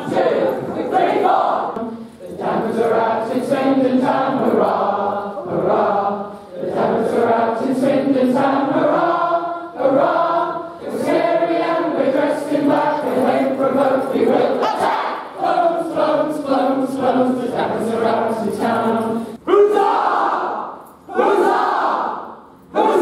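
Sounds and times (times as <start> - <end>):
group singing in unison: 0.0 - 23.0.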